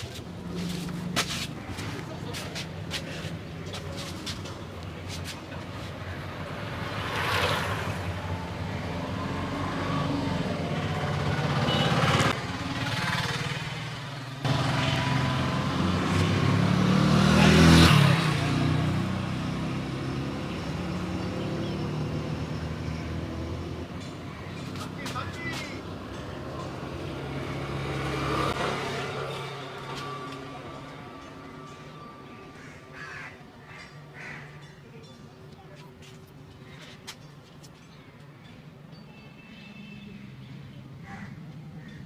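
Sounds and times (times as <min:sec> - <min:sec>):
motor vehicles passing: 0:00.0 - 0:38.8.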